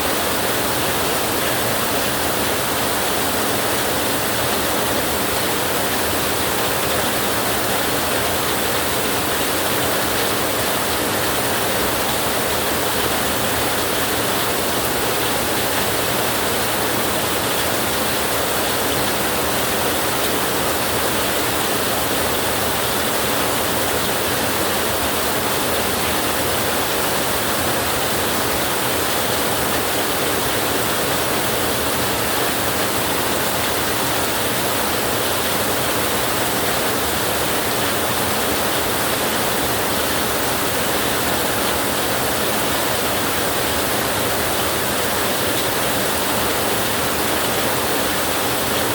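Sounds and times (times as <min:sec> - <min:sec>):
heavy rain on a tin roof: 0:00.0 - 0:48.9.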